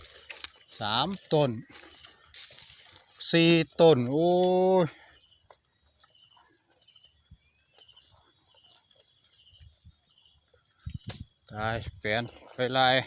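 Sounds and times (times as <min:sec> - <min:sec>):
high-pitched insect trilling: 0:00.0 - 0:13.0
short insect chirps: 0:00.0 - 0:13.0.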